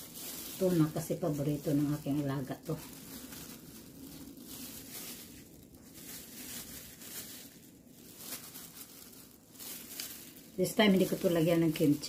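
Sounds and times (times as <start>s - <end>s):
plastic gloves rustling and crinkling: 0.0s - 12.0s.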